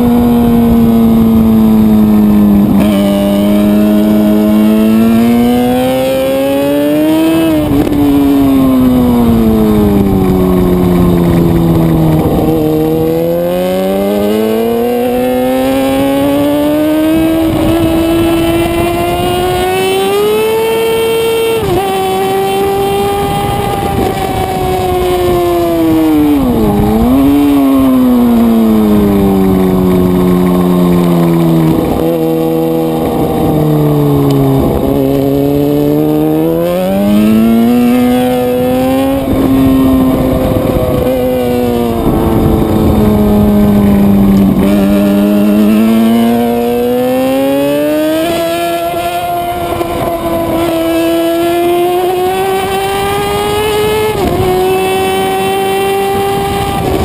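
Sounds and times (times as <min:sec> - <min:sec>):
gear changes: 0:00.0 - 0:57.0
sport bike engine: 0:00.0 - 0:57.0.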